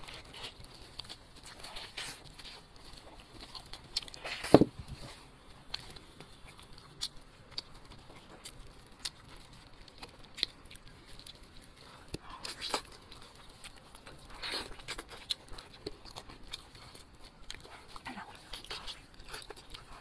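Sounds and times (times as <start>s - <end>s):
chewing meat: 0.0s - 20.0s.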